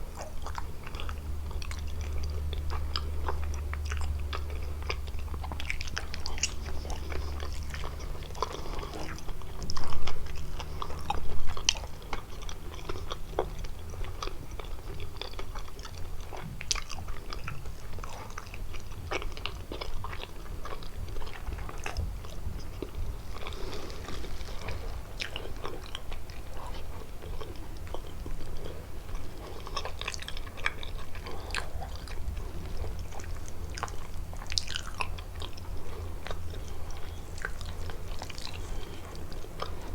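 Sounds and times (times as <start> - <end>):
chewing pastries: 0.0 - 39.9.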